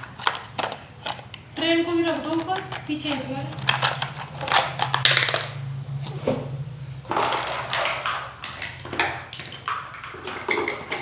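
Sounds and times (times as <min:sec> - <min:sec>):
plastic toys clattering: 0:00.0 - 0:05.7, 0:07.0 - 0:11.0.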